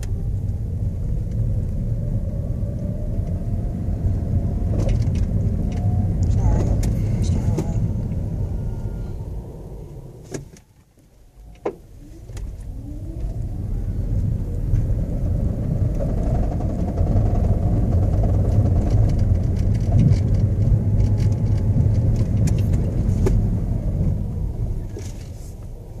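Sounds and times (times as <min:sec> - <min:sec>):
car pulling away whine: 0:00.0 - 0:26.0
drivetrain and road rumble: 0:00.0 - 0:26.0.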